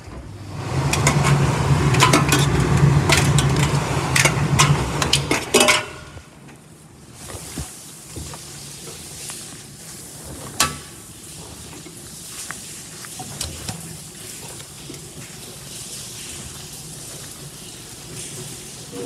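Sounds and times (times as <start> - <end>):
tumble dryer hiss and hum: 0.0 - 19.0.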